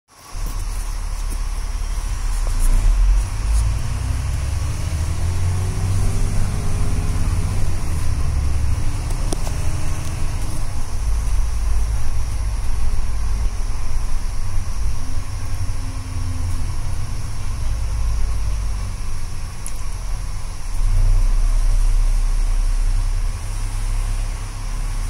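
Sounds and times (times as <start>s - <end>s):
bus diesel engine rumbling: 0.1s - 25.0s.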